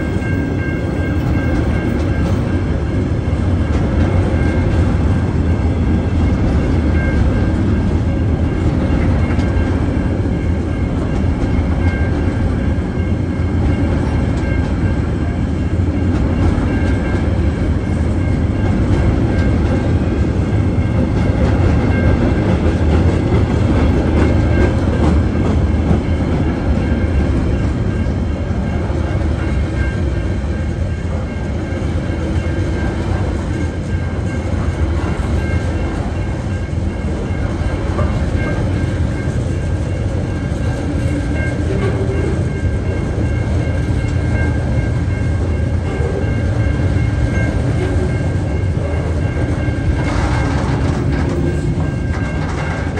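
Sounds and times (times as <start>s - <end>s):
steel wheels rumbling on rail: 0.0s - 52.9s.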